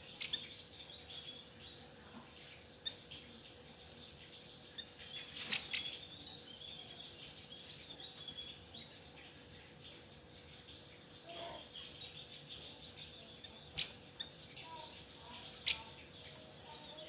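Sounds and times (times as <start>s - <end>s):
small songbird chirping: 0.0s - 17.0s.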